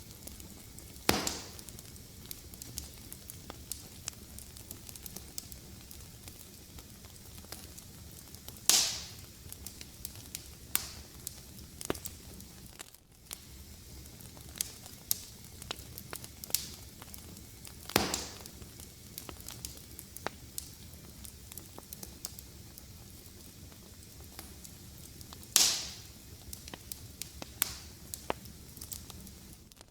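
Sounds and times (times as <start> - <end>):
rustle of flames: 0.0 - 29.9
wood fire crackling: 0.0 - 29.9
loud snaps with hiss: 0.1 - 29.8.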